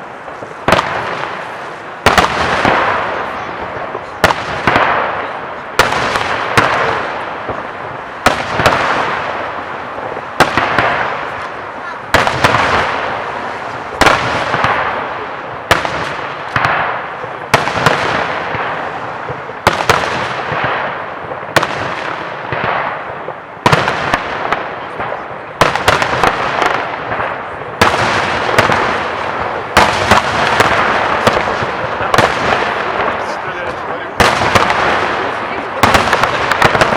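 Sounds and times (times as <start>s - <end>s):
firework crackle: 0.0s - 36.9s.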